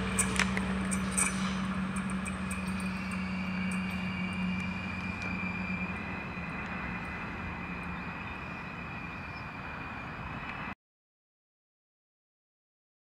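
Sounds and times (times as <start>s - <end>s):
high whine: 0.0s - 10.8s
train engine hum: 0.0s - 10.8s.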